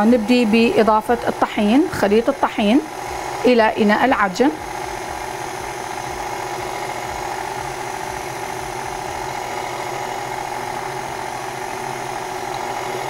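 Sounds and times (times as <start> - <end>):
electric mixer motor humming: 0.0 - 13.0.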